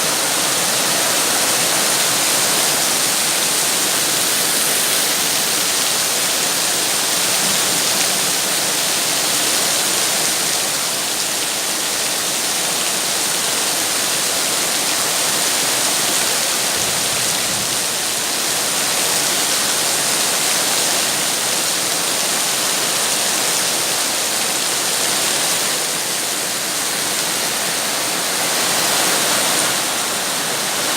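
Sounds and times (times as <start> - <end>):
steady rain hiss: 0.0 - 30.9.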